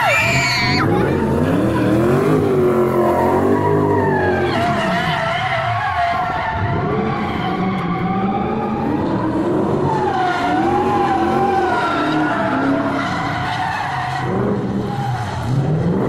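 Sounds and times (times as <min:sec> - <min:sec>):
tyres skidding: 0:00.0 - 0:16.0
car engine revving: 0:00.2 - 0:16.0.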